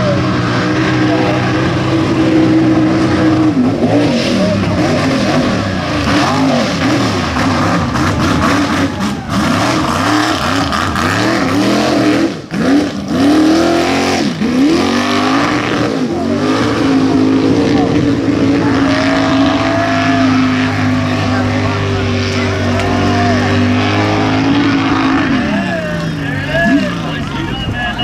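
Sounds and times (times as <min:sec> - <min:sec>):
truck engine revving loudly: 0:00.0 - 0:28.0.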